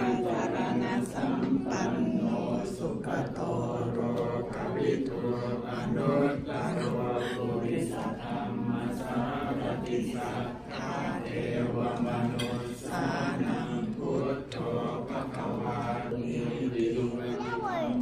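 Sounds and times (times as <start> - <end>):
many voices chanting in unison: 0.0 - 18.0.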